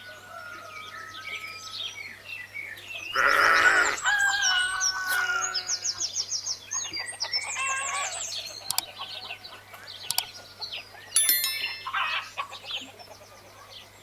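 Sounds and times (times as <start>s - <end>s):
birds chirping and trilling: 0.3s - 14.0s.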